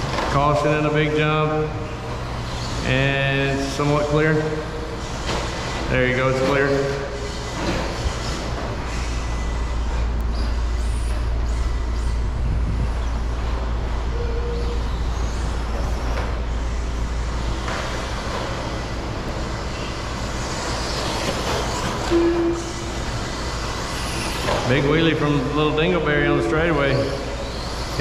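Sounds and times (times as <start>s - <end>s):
low hum: 0.0s - 28.0s
rc trucks running: 0.0s - 28.0s.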